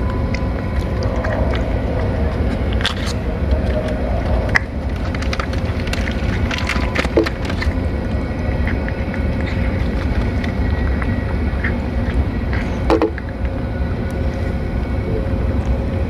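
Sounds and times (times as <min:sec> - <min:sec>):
cat chewing and licking: 0:00.0 - 0:14.2
steady low rumble: 0:00.0 - 0:16.0.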